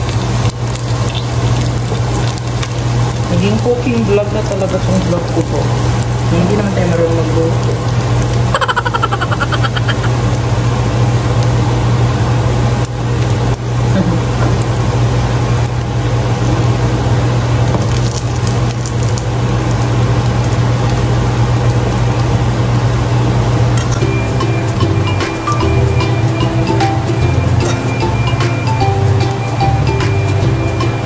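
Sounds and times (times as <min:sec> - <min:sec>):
meat and onion sizzling in oil: 0:00.0 - 0:31.0.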